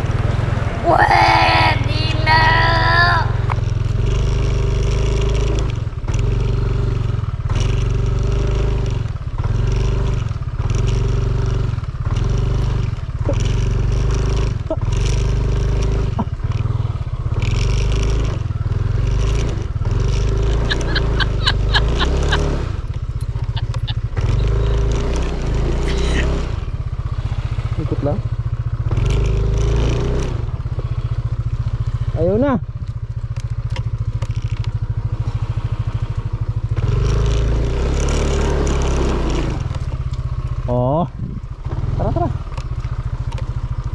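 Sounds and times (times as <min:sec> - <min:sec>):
motor scooter engine droning: 0:00.0 - 0:43.9.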